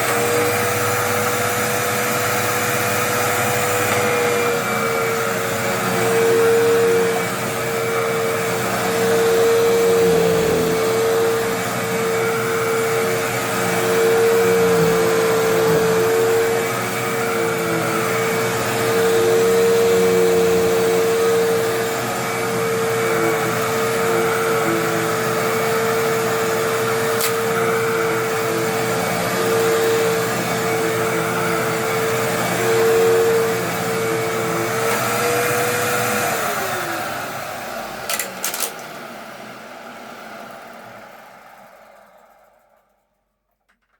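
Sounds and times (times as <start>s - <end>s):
upright vacuum cleaner running: 0.0s - 43.2s.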